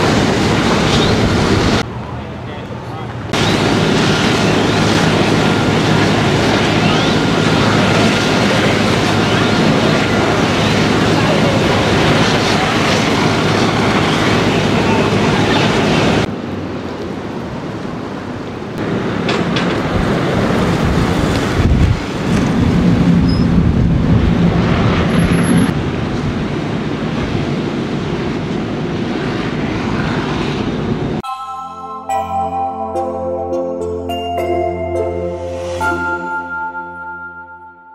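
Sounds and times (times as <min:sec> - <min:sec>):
street noise: 0:00.0 - 0:37.8.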